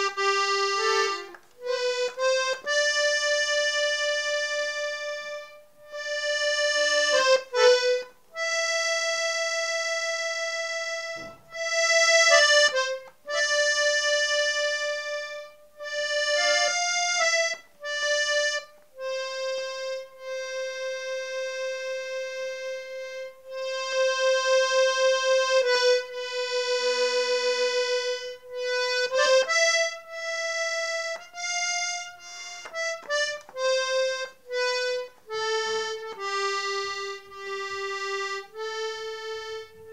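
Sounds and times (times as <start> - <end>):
accordion slow melody: 0.0 - 39.9.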